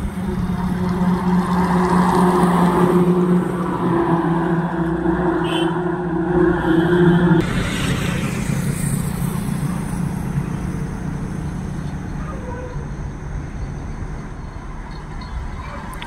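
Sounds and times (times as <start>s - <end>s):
road noise: 0.0s - 16.0s
truck engine driving away: 0.0s - 16.0s.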